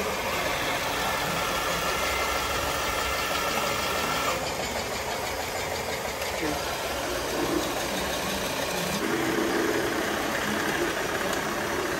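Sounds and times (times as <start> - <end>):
model engine idling: 0.0 - 11.9.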